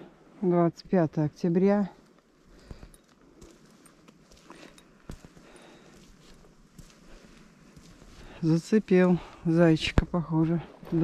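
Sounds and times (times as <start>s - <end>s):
footsteps on asphalt: 2.2s - 11.0s.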